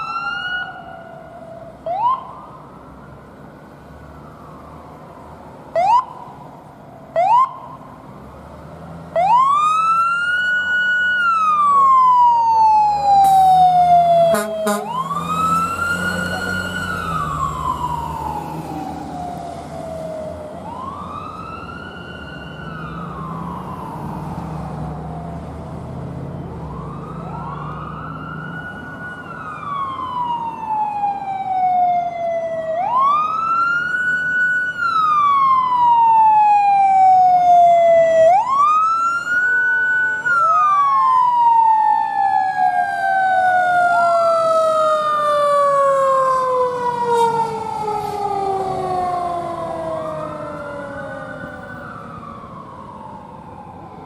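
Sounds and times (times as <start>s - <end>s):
fire engine sirens wailing: 0.0s - 54.0s.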